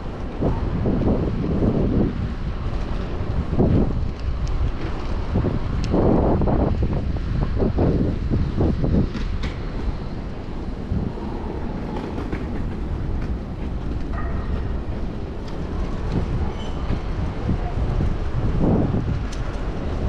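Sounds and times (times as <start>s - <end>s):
city street traffic rumble: 0.0s - 20.0s
wind on microphone: 0.0s - 20.0s.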